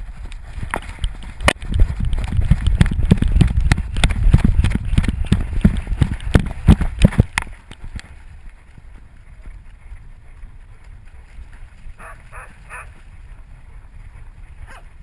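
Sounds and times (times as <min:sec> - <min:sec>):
dog running strides thumping: 0:00.0 - 0:15.0
wind on microphone: 0:00.0 - 0:15.0.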